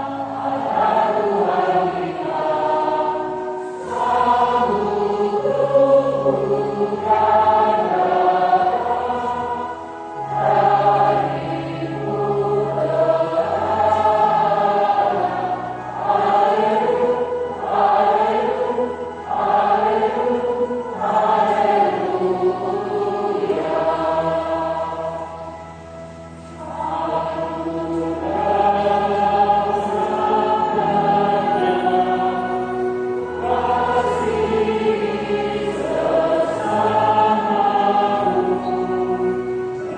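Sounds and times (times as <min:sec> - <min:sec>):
choir and congregation singing hymn: 0:00.0 - 0:39.9.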